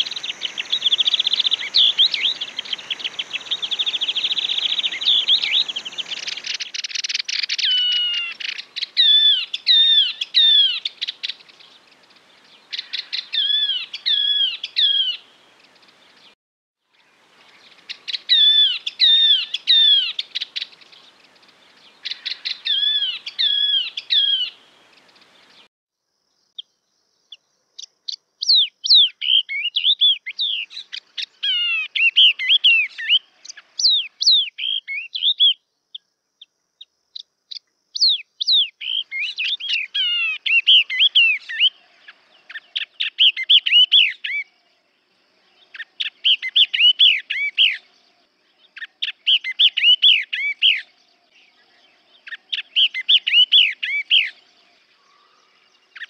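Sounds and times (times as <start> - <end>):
bird singing whistled notes: 0.0 - 16.4, 17.4 - 25.7, 26.5 - 36.1, 37.2 - 44.6, 45.5 - 56.0.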